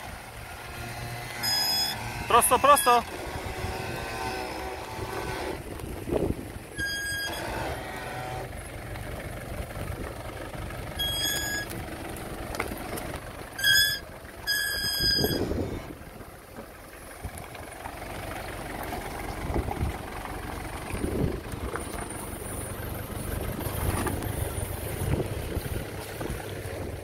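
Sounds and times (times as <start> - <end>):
engine running at low speed: 0.0 - 27.0.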